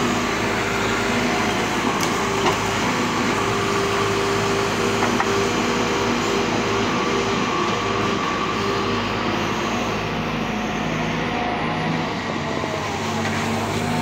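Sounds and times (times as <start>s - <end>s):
excavator running: 0.0s - 14.0s.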